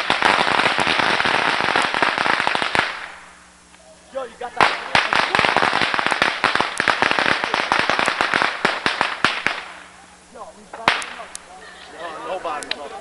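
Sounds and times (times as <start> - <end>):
firecrackers cracking: 0.0 - 11.5.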